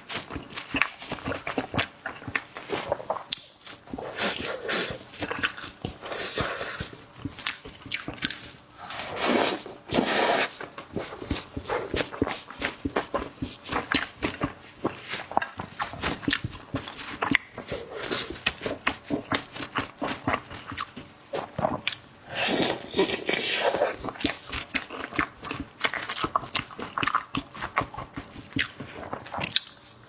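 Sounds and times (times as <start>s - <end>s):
wet chewing and smacking: 0.0s - 8.8s, 10.6s - 30.0s.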